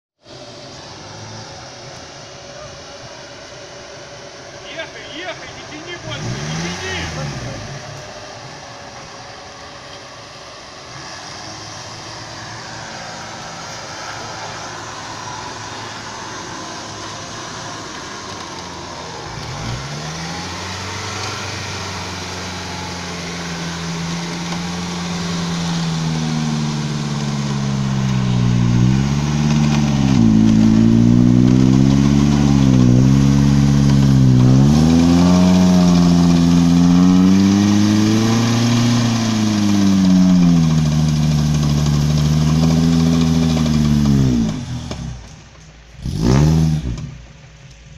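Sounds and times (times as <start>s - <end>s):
off-road vehicle engine revving: 4.7s - 47.4s.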